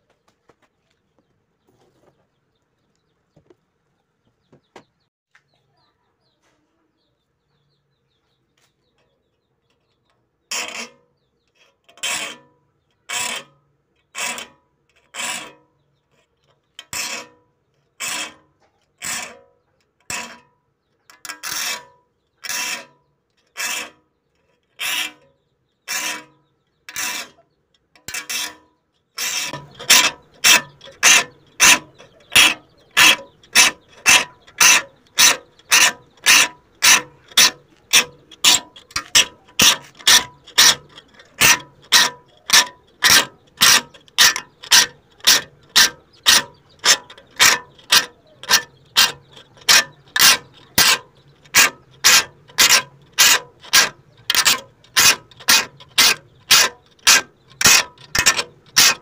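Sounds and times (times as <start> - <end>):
rasping scraping strokes: 10.5 - 19.5, 20.1 - 20.5, 21.1 - 59.0.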